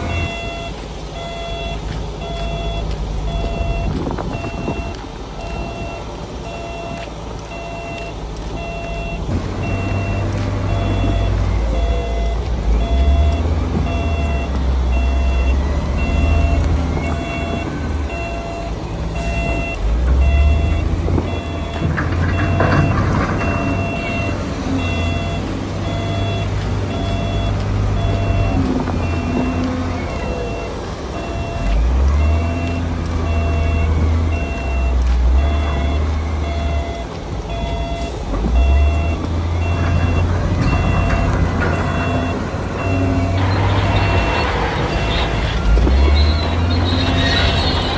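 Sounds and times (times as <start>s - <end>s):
bulldozer diesel engine rumble: 0.0s - 47.9s
reversing alarm beeping: 0.0s - 47.9s.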